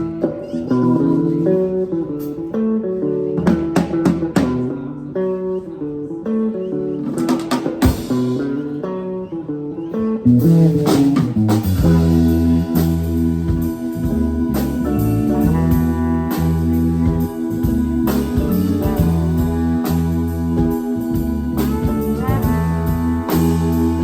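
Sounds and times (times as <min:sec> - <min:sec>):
band playing instrumental music: 0:00.0 - 0:24.0
guitar: 0:00.0 - 0:24.0.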